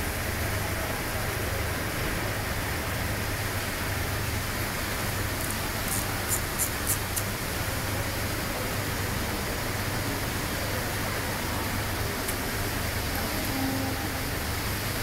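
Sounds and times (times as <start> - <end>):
atrium ambient hiss: 0.0 - 15.0.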